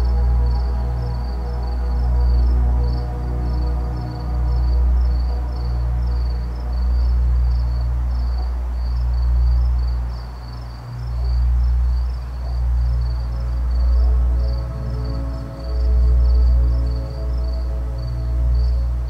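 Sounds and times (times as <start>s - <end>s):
ambient drone music: 0.0s - 19.0s
high cricket-like chirping: 0.0s - 19.0s.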